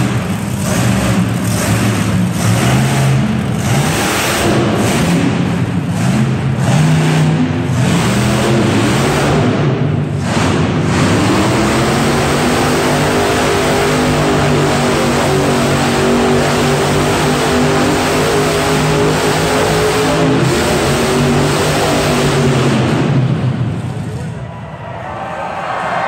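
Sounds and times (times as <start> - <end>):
monster truck engine revving: 0.0 - 24.5.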